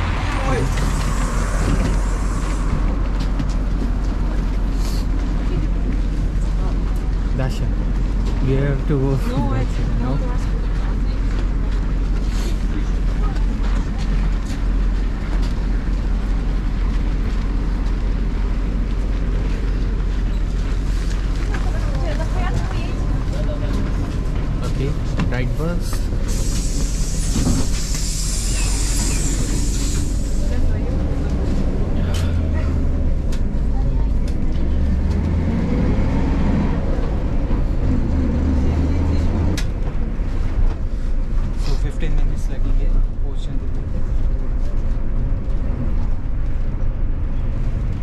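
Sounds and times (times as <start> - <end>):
bus engine idling: 0.0 - 35.5, 36.7 - 48.0.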